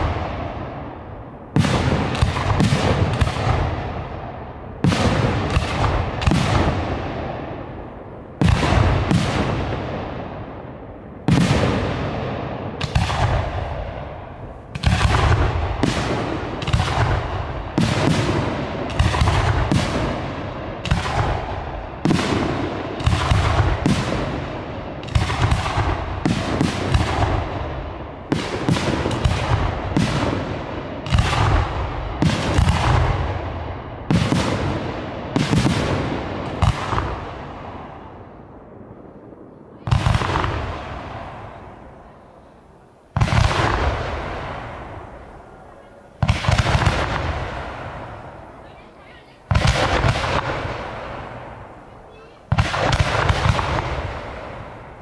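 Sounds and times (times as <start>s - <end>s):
fireworks bangs with rumbling echo: 0.0s - 55.0s.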